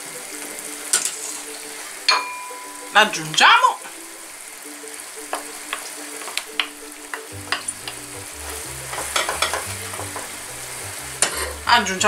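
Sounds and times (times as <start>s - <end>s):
background music: 0.0s - 12.0s
steady hiss: 0.0s - 12.0s.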